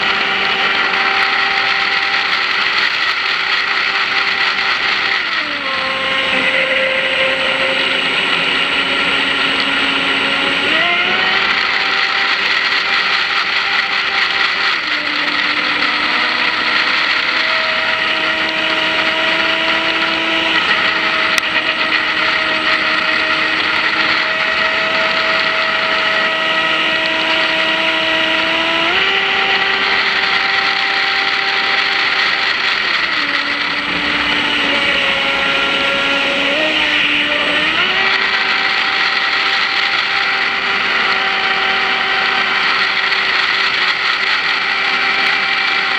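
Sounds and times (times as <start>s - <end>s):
electric motor whine: 0.0s - 45.9s.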